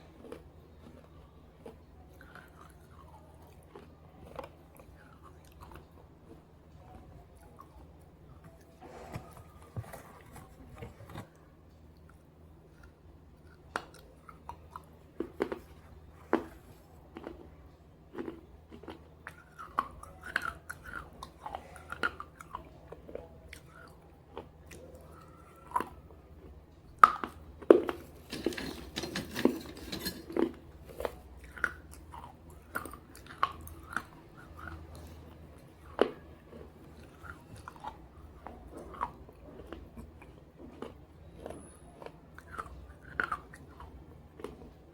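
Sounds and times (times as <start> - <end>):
person crunching and chewing: 0.0 - 6.5, 12.7 - 38.0, 38.9 - 44.7.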